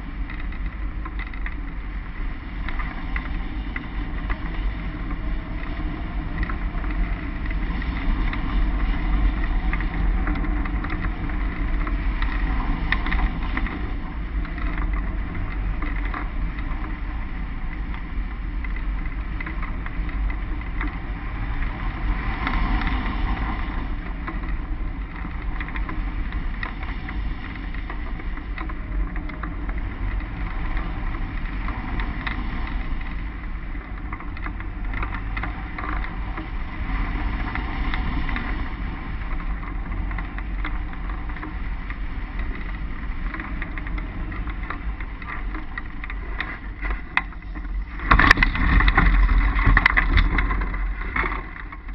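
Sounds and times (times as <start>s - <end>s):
wind rumble on microphone: 0.0s - 51.9s.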